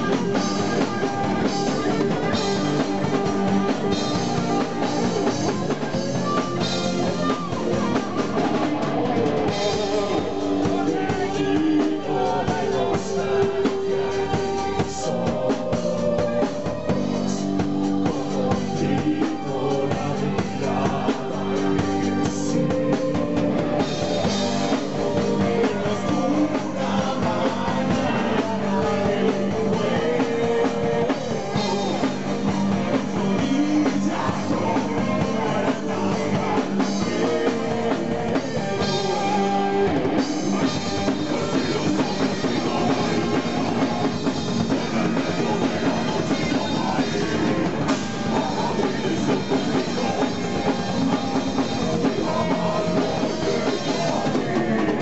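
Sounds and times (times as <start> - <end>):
bass guitar: 0.0 - 55.0
drum kit: 0.0 - 55.0
electric guitar: 0.0 - 55.0
vocalist singing: 0.0 - 55.0.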